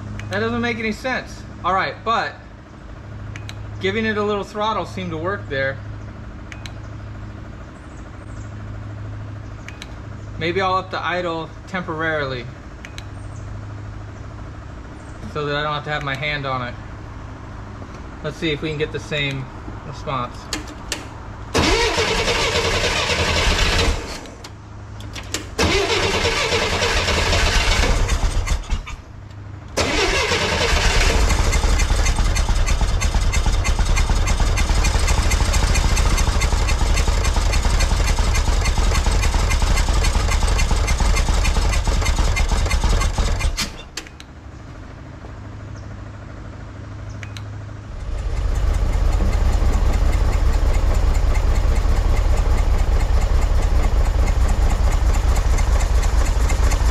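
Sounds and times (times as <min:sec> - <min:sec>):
car engine running roughly: 0:00.0 - 0:56.9.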